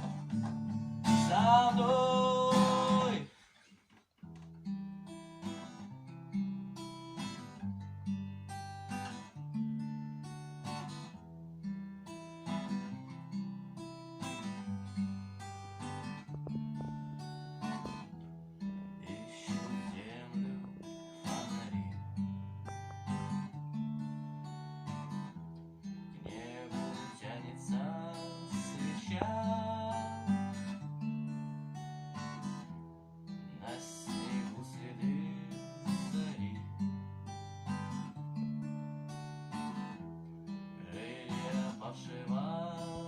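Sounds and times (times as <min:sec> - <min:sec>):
acoustic guitar picking chords: 0:00.0 - 0:03.4, 0:04.2 - 0:43.0.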